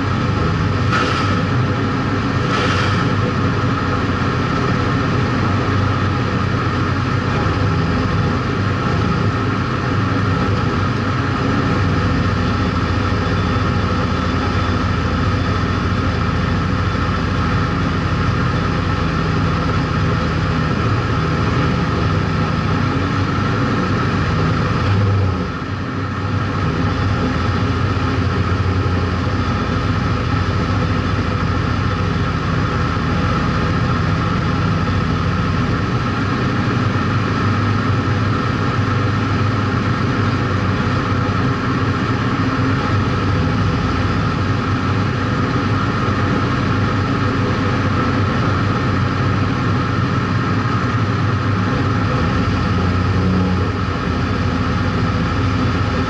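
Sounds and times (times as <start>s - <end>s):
race car engine idling: 0.0s - 56.0s.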